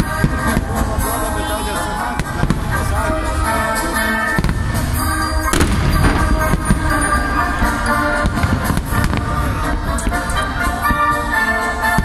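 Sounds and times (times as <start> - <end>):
firework bangs and crackles: 0.0 - 12.0
loud music: 0.0 - 12.0.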